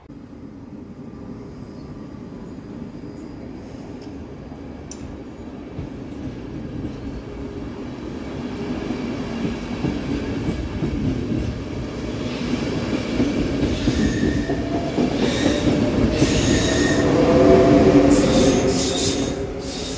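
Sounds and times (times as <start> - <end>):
electric locomotive whine: 0.0 - 19.9
train coaches running past: 0.0 - 19.9.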